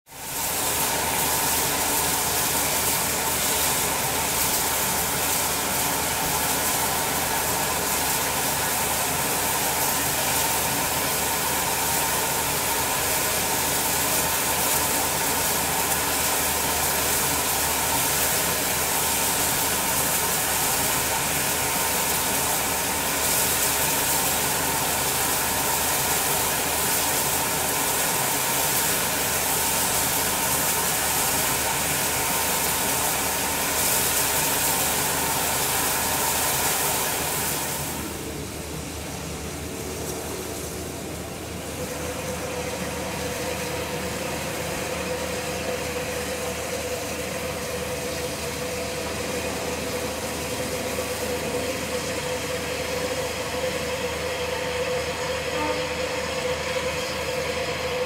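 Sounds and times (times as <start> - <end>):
steam hissing from locomotive: 0.1 - 58.0.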